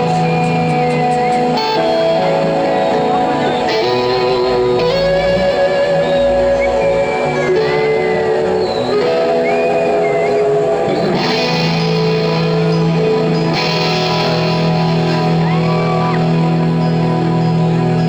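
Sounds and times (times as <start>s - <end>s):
sustained electric guitar bends: 0.0s - 18.0s.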